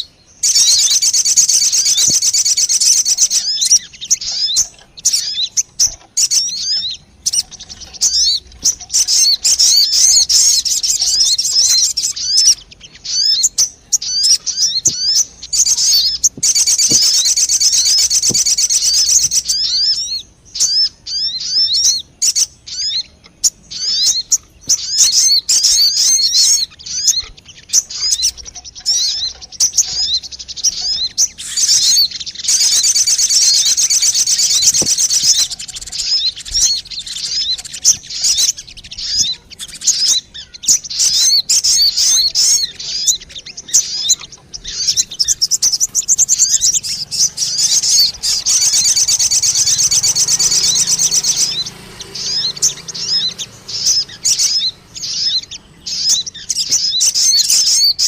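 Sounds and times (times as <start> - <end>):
rapid high bird chirping: 0.0 - 58.0.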